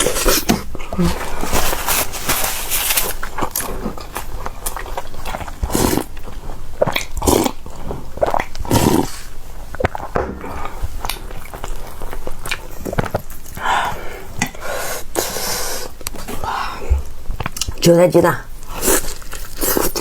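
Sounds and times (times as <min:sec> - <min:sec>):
person biting and chewing food: 0:00.0 - 0:17.8, 0:18.6 - 0:20.0.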